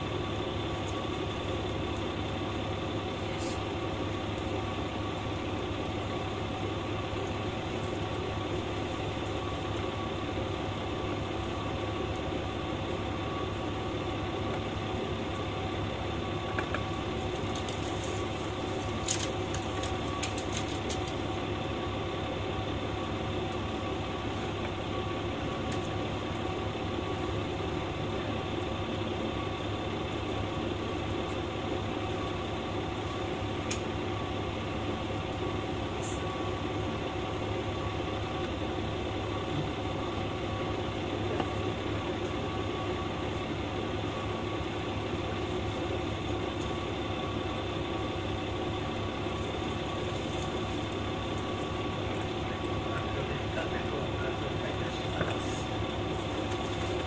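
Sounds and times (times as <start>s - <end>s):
diesel railcar engine idling: 0.0s - 57.0s.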